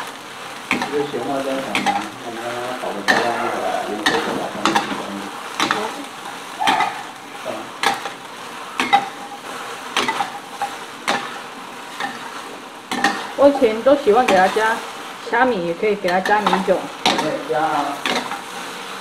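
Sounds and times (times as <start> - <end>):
food sizzling: 0.0 - 19.0.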